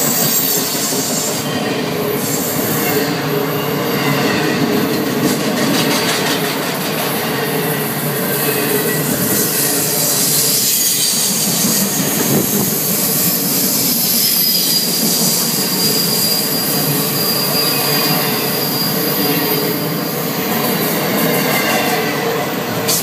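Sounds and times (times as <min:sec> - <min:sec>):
high wheel squeal: 0:00.0 - 0:04.8, 0:07.2 - 0:23.0
freight cars rumbling on rails: 0:00.0 - 0:23.0.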